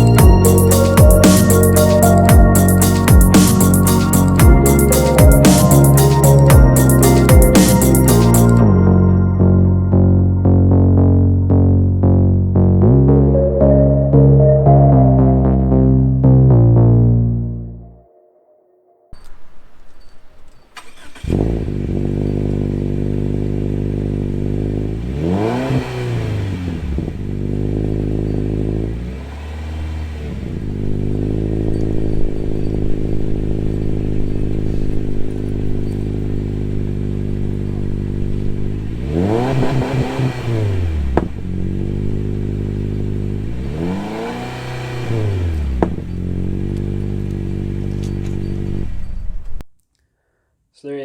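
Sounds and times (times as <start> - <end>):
car engine idling and revving: 0.0 - 17.0, 19.2 - 49.6.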